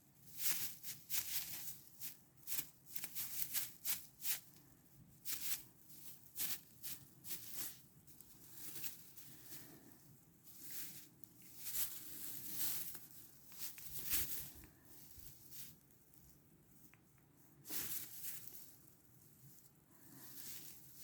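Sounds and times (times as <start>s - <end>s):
rustling and crinkling: 0.0s - 21.0s.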